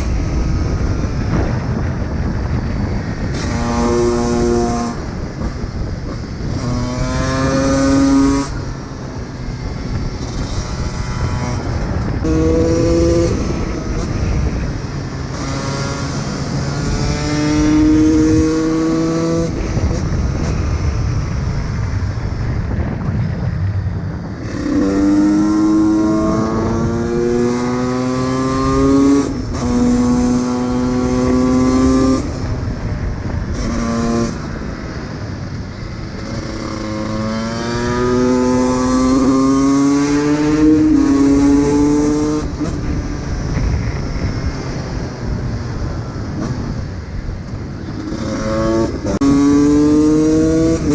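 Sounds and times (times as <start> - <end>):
two-stroke motorcycle accelerating: 0.0 - 50.9.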